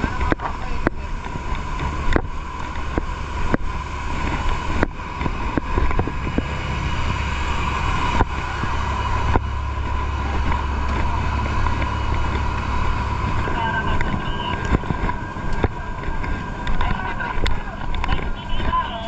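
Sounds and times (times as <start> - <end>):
fire truck engines rumbling: 0.0 - 19.0.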